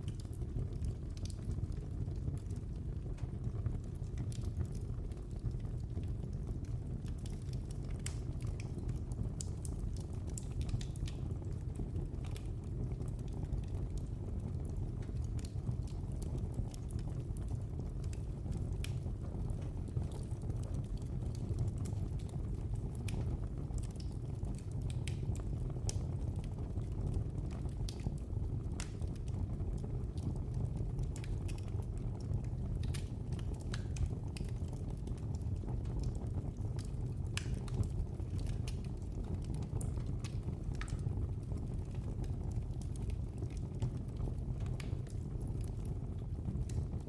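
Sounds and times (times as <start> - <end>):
fire crackling and popping: 0.0 - 47.0
fire roaring: 0.0 - 47.0.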